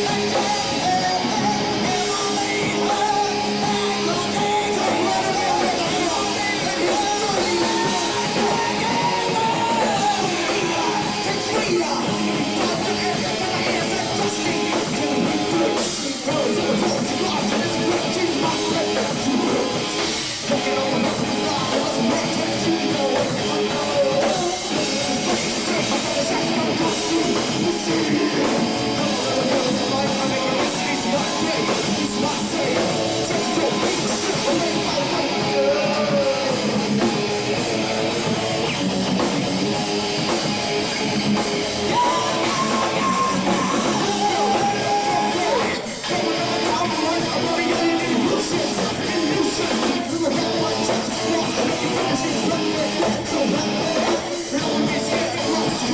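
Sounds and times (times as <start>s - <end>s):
heavy metal band playing: 0.0s - 55.9s.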